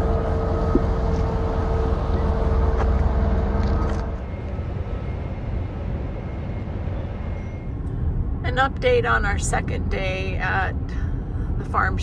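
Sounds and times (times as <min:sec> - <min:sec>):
low vehicle rumble: 0:00.0 - 0:12.0
mid-pitched hum: 0:00.0 - 0:12.0.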